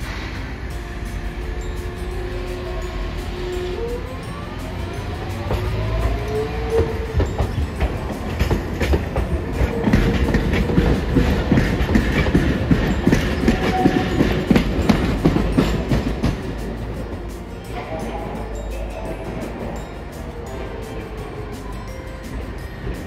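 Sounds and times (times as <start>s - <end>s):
tram wheels clacking over rail joints: 0.0s - 23.0s.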